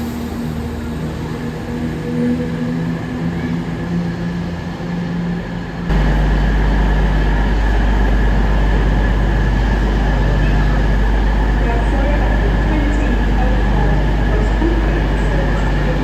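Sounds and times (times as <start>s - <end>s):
train humming and rumbling: 0.0s - 16.0s.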